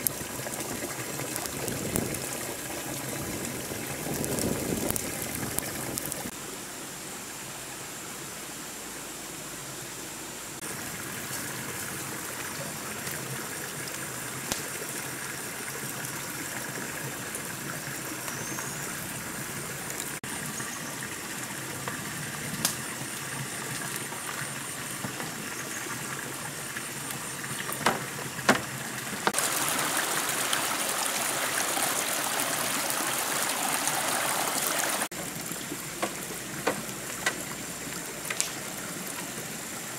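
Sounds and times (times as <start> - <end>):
stream water rushing: 0.0 - 6.6, 10.5 - 39.9.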